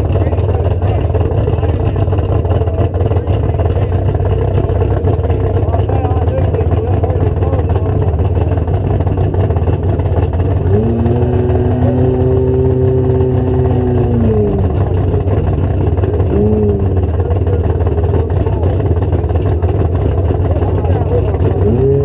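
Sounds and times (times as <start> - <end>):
drag car engine idling and revving: 0.0 - 22.0.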